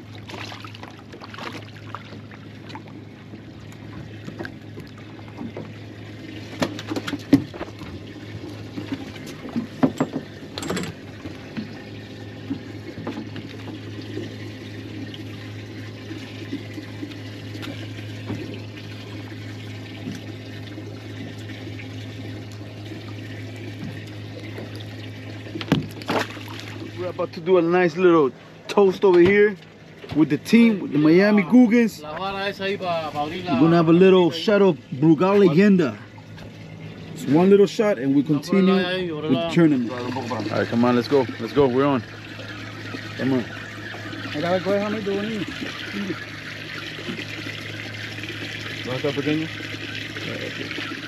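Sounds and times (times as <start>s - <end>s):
steady low hum: 0.0s - 51.0s
water trickling and splashing: 0.0s - 51.0s.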